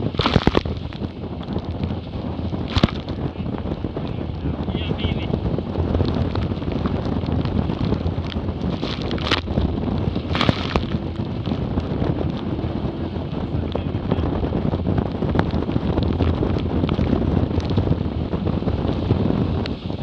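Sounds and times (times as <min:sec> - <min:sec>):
water rushing past hulls: 0:00.0 - 0:20.0
wind buffeting microphone: 0:00.0 - 0:20.0.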